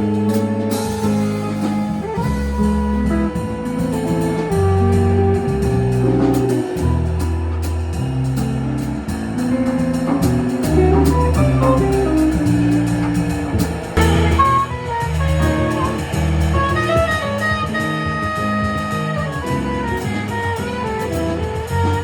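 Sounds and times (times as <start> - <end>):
bass notes: 0.0 - 22.0
drums: 0.0 - 22.0
higher melodic line: 0.0 - 22.0.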